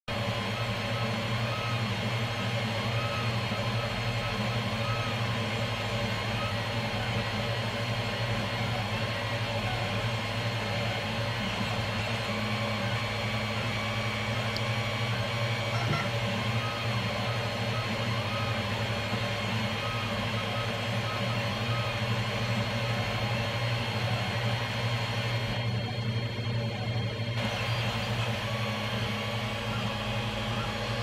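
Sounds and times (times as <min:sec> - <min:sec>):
fans humming: 0:00.1 - 0:31.0
stepper motors whining: 0:00.2 - 0:31.0.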